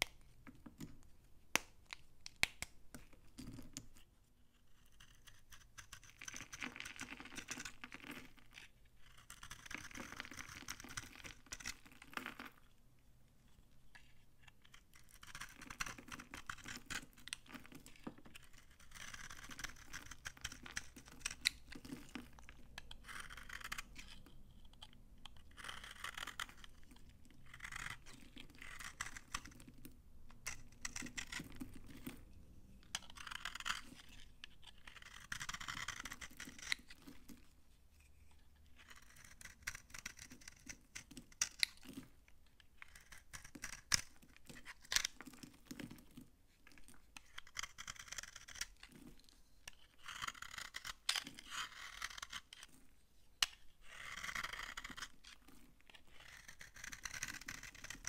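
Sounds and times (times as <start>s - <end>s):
knife scraping dry soap: 3.0s - 12.7s, 13.8s - 58.0s.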